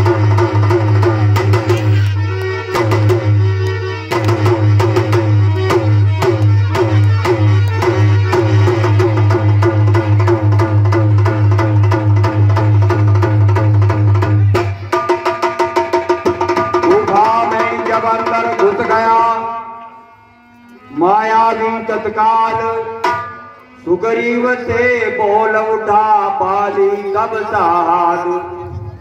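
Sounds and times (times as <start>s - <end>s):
dholak drumming: 0.0s - 19.8s, 21.0s - 29.0s.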